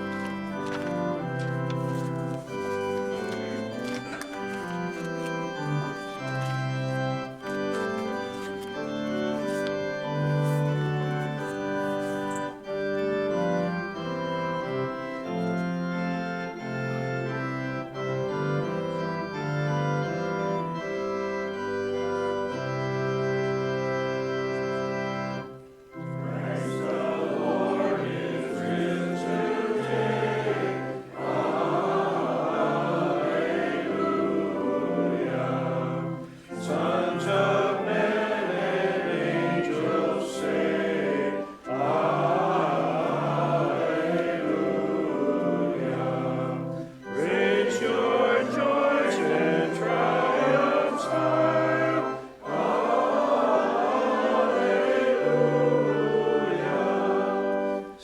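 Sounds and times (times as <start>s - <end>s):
congregation singing a hymn: 0.0s - 58.0s
pipe organ sustained bass notes: 0.0s - 58.0s.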